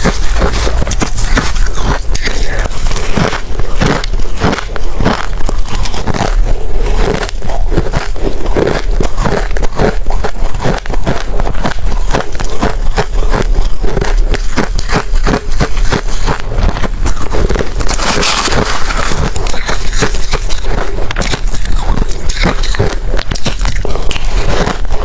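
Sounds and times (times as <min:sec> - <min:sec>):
chewing ice crunching: 0:00.0 - 0:25.0.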